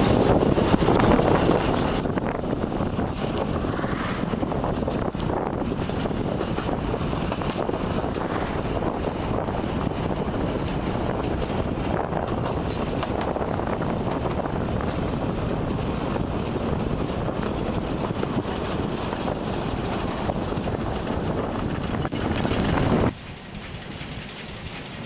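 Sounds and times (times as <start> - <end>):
road noise from moving vehicle: 0.0 - 25.0
wind buffeting microphone: 0.0 - 25.0.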